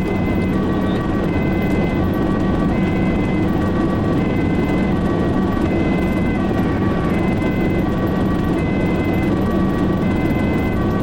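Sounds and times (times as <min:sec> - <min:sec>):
ambulance two-tone siren: 0:00.0 - 0:11.0
engine and road noise: 0:00.0 - 0:11.0.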